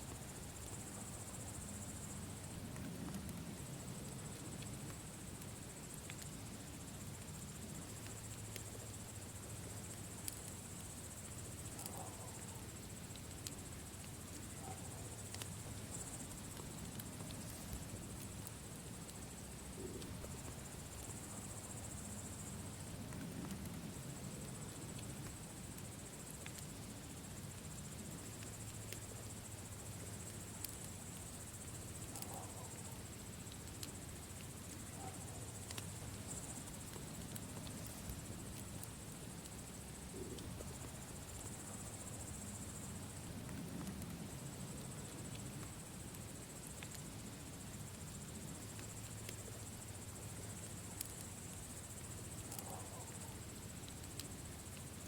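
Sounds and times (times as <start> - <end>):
crickets trilling: 0.0 - 55.0
fire crackles: 0.0 - 55.0.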